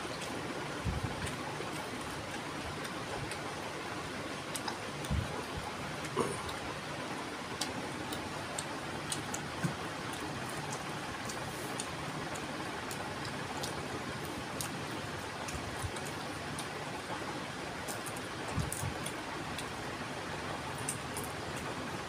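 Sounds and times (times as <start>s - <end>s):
eating with hands and chewing: 1.0s - 22.0s.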